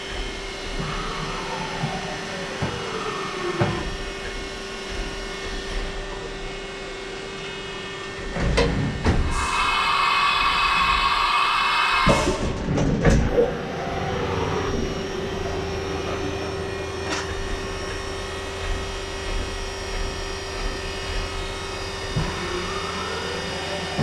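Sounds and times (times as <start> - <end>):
machine steady hum: 0.0 - 24.0.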